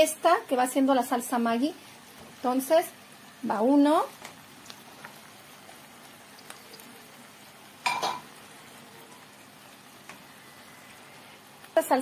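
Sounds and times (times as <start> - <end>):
pasta frying in a pan: 0.0 - 12.0.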